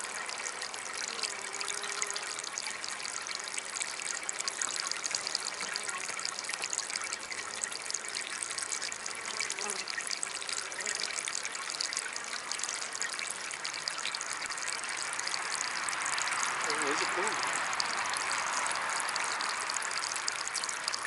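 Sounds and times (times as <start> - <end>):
water fountain trickling: 0.0 - 21.0.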